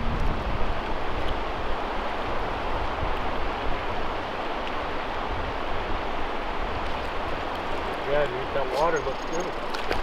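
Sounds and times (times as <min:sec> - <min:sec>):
shallow river rushing over riffles: 0:00.0 - 0:10.0.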